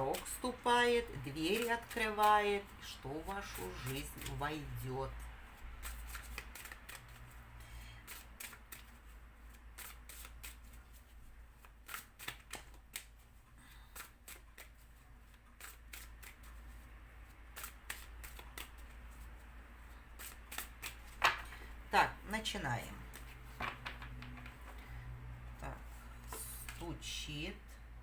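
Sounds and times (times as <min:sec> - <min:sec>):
cards shuffled by hand: 0:00.0 - 0:21.8, 0:23.0 - 0:24.9.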